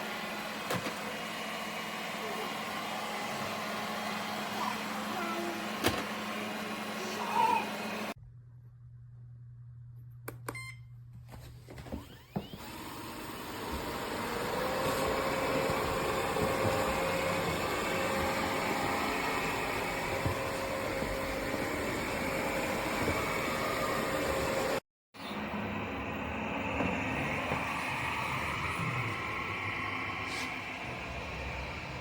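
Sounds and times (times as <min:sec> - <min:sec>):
robot vacuum motor whining: 0:00.0 - 0:08.2, 0:11.9 - 0:32.0.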